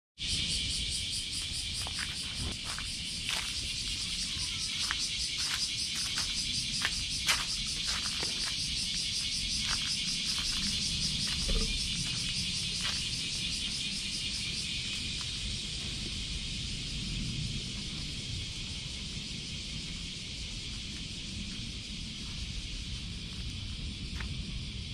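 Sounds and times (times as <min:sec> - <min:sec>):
insects chorus: 0:00.2 - 0:24.9.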